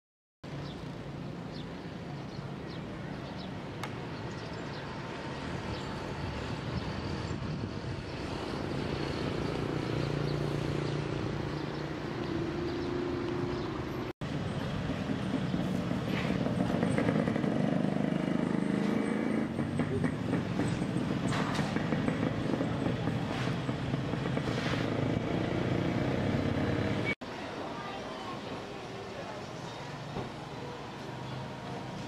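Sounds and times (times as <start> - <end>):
vehicle engines running: 0.5 - 27.2.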